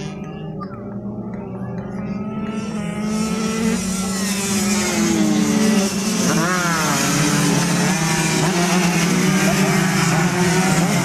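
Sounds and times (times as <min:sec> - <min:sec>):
two-stroke motorcycles revving high: 0:00.0 - 0:11.0.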